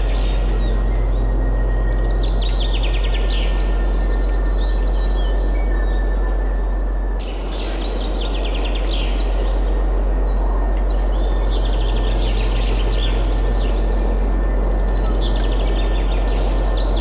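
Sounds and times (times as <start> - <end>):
deep low rumble: 0.0 - 7.2, 8.1 - 17.0
birds chirping trills: 0.0 - 17.0.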